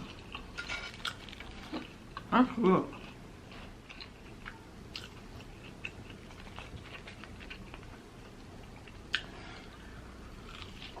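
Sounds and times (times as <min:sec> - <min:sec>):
person chewing crunchy food: 0:00.0 - 0:02.3, 0:02.9 - 0:11.0.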